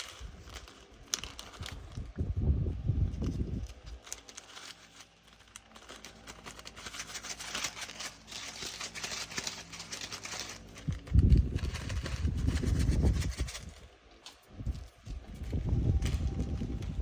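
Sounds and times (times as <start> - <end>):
plastic bags crinkling: 0.0 - 2.3, 2.9 - 17.0.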